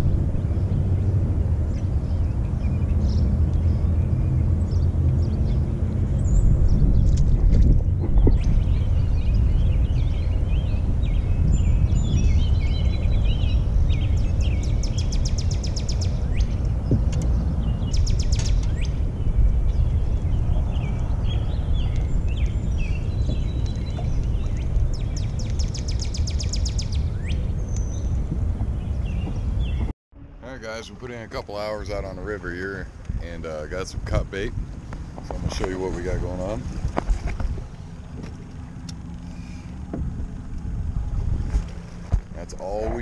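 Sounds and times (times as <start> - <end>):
songbirds chirping: 0.0 - 43.0
steady low rumble: 0.0 - 43.0.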